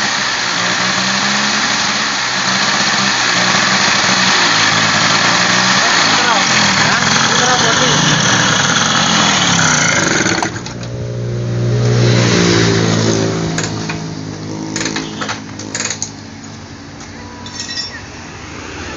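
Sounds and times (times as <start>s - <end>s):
scooter engine revving: 0.0s - 17.4s.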